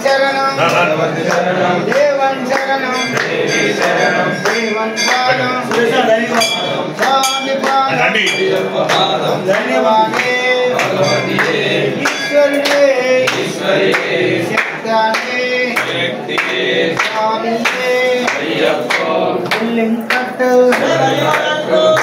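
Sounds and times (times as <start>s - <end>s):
group singing devotional song: 0.0s - 22.0s
rhythmic hand clapping: 0.0s - 22.0s.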